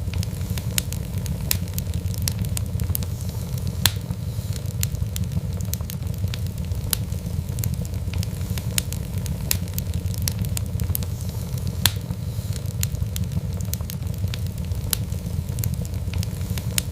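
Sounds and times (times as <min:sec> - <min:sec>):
fire crackling and popping: 0:00.0 - 0:16.9
low rumble of flames: 0:00.0 - 0:16.9.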